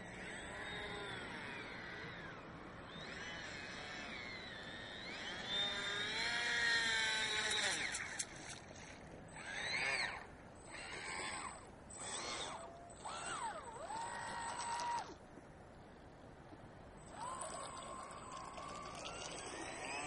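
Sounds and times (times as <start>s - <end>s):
model boat motor whining: 0.0s - 20.0s.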